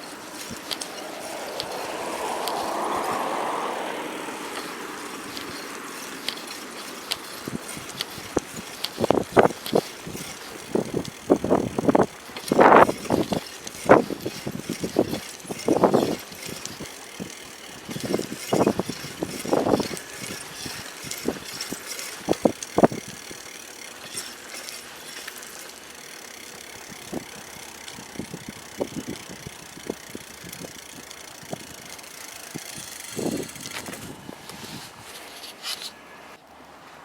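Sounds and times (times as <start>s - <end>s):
bicycle rattling over rough ground: 0.0s - 36.4s.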